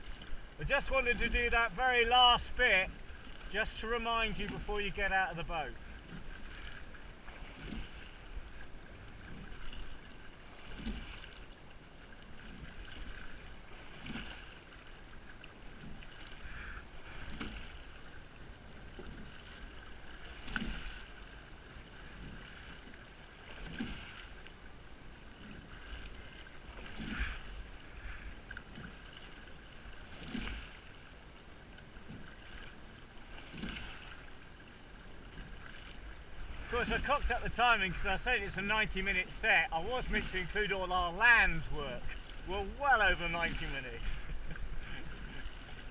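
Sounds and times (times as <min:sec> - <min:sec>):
oars knocking and swishing: 0:00.0 - 0:45.9
water along boat hull: 0:00.0 - 0:45.9.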